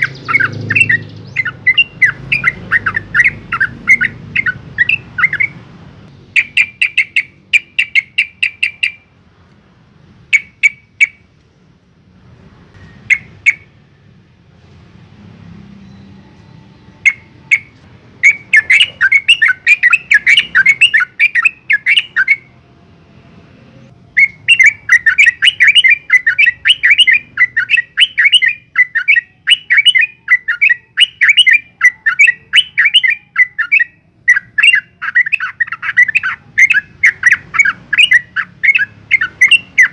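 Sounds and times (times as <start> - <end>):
bulbul chattering song: 0.0 - 9.2, 10.1 - 11.4, 12.8 - 14.1, 16.2 - 22.6, 23.7 - 39.9.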